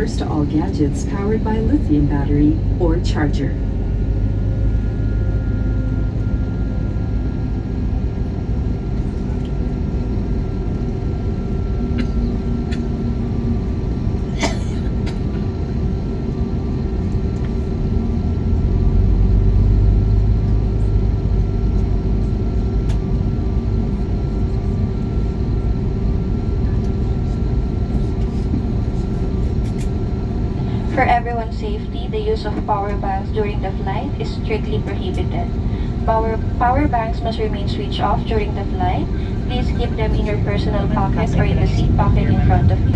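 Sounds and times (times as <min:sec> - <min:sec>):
aircraft cabin low rumble: 0:00.0 - 0:42.9
engine whine: 0:00.0 - 0:42.9.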